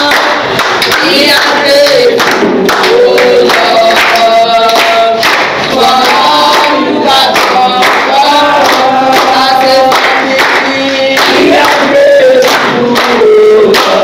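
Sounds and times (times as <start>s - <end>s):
group singing: 0.0s - 14.0s
hand-clapping: 0.0s - 14.0s.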